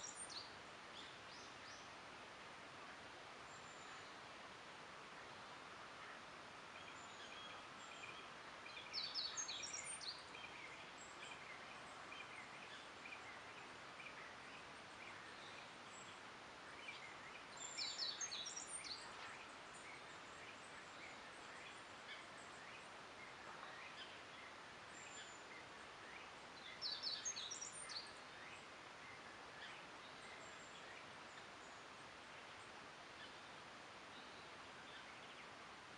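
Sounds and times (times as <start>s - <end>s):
steady background hiss: 0.0s - 35.9s.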